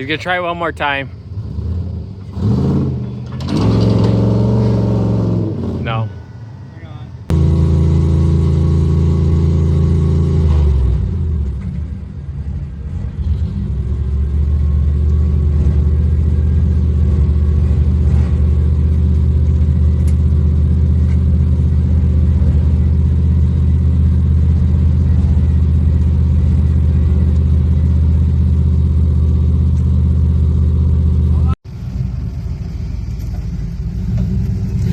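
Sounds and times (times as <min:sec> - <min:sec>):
vehicle engine running at low revs: 0:00.0 - 0:34.9.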